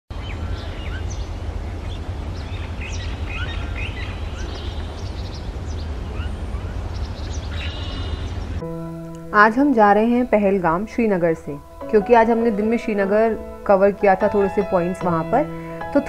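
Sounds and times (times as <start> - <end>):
steady low rumble: 0.1 - 15.9
songbirds chirping: 0.1 - 16.0.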